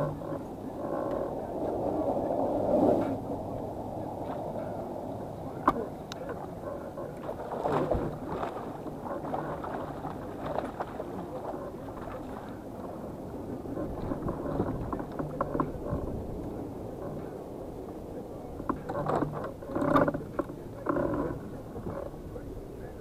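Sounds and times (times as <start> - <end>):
water rushing: 0.0 - 23.0
wind: 0.0 - 23.0.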